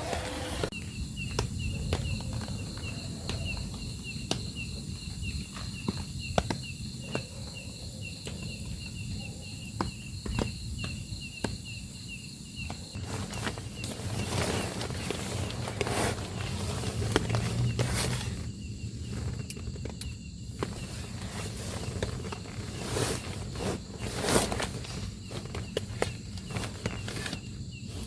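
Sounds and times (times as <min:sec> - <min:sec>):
insect chirping: 0:00.6 - 0:28.0.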